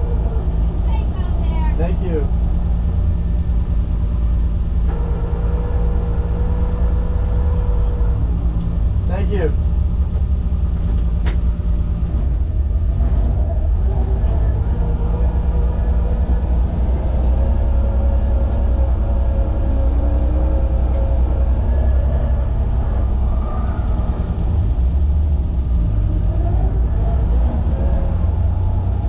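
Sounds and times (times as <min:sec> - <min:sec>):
car engine running hard: 0:00.0 - 0:29.0.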